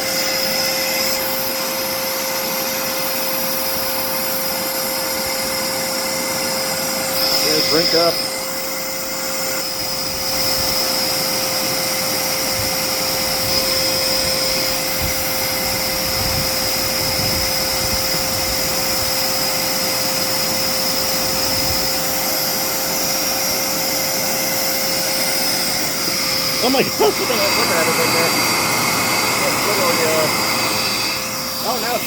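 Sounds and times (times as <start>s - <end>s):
vacuum cleaner sucking liquid: 0.0s - 32.0s.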